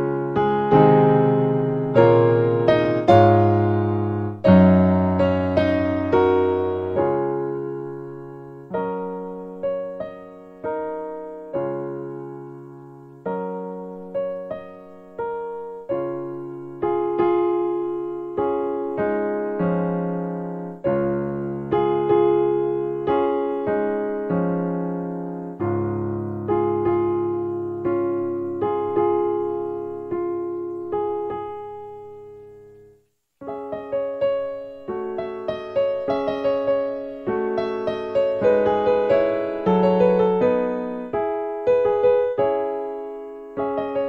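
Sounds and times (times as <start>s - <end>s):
slow piano music: 0.0s - 44.0s.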